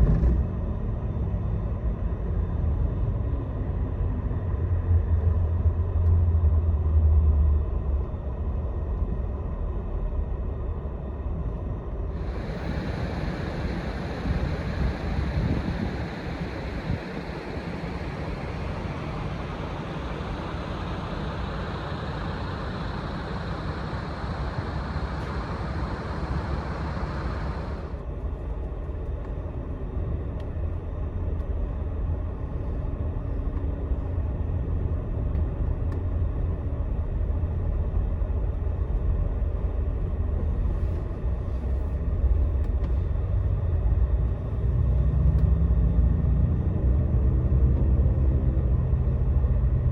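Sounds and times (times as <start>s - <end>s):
coach engine low rumble: 0.0s - 49.9s
road and wind hiss: 0.0s - 49.9s.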